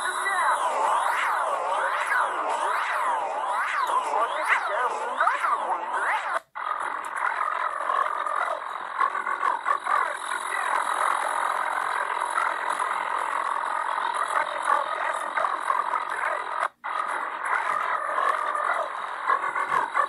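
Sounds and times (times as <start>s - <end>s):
garbled warbling chatter: 0.0s - 20.0s.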